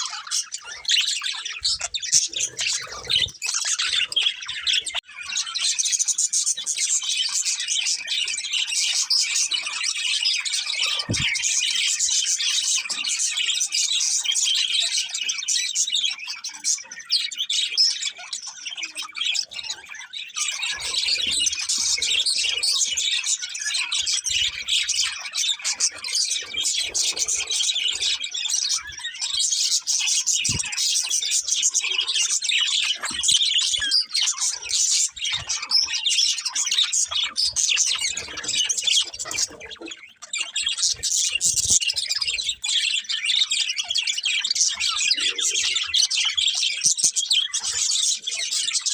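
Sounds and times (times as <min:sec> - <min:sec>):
budgerigars chirping and chattering: 0:00.0 - 0:48.9.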